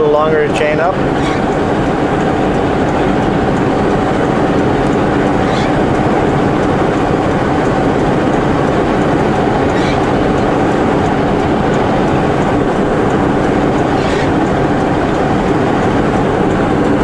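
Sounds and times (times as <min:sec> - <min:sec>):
diesel truck engine running: 0:00.0 - 0:17.0
road and tyre noise: 0:00.0 - 0:17.0.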